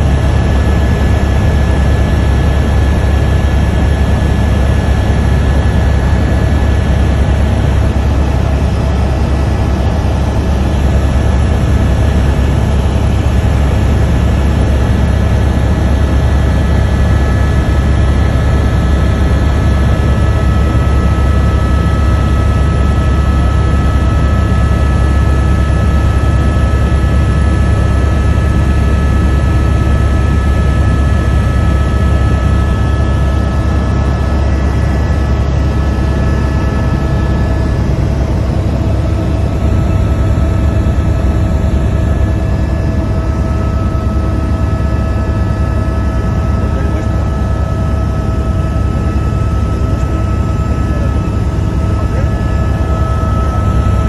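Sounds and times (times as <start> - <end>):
helicopter rotor and engine drone: 0.0 - 54.0
thin steady whines: 0.0 - 54.0.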